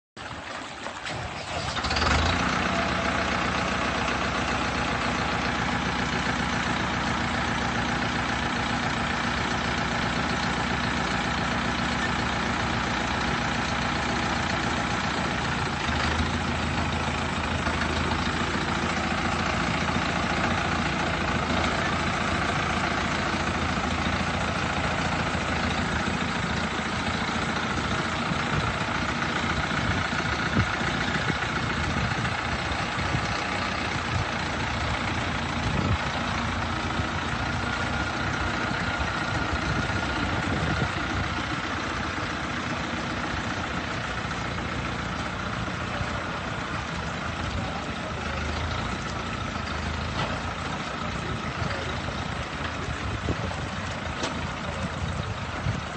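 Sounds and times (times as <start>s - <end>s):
tractor diesel engine idling: 0.2s - 55.9s.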